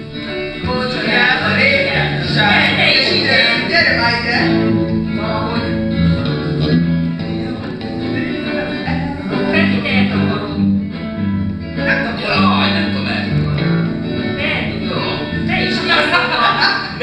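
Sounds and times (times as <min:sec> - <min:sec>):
bass guitar: 0:00.0 - 0:17.0
electric guitar: 0:00.0 - 0:17.0.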